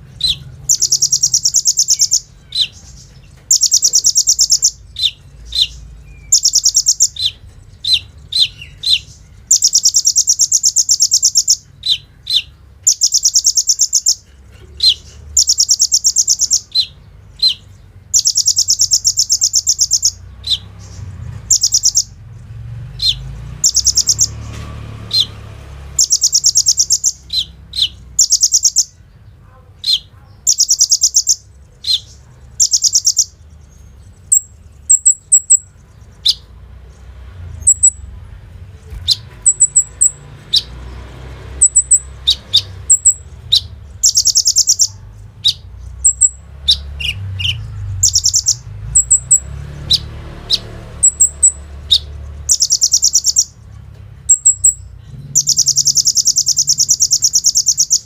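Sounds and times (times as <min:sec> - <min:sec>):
bird singing high trills: 0:00.0 - 0:22.4, 0:23.0 - 0:29.1, 0:29.8 - 0:36.5, 0:37.5 - 0:38.1, 0:39.1 - 0:40.8, 0:41.5 - 0:53.6, 0:54.3 - 0:58.0.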